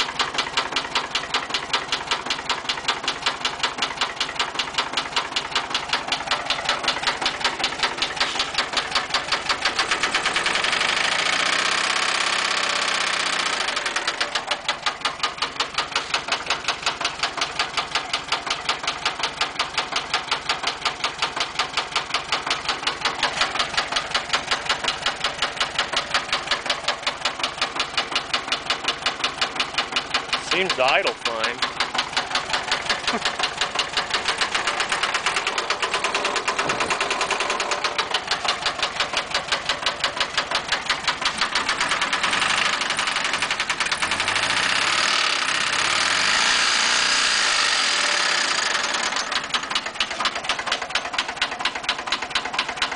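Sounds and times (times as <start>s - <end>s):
car engine idling with knocking: 0.0s - 52.9s.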